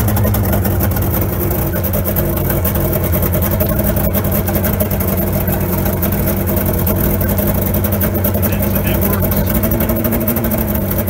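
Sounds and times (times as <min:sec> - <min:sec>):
muffled outboard motor running: 0:00.0 - 0:11.0.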